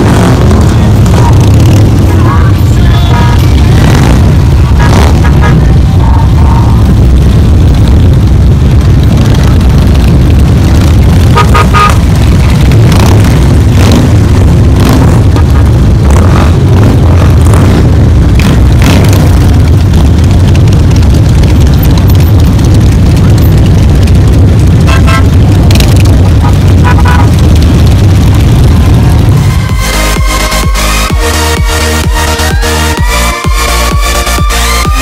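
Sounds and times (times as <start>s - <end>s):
motorcycles deep engine rumble: 0.0s - 35.0s.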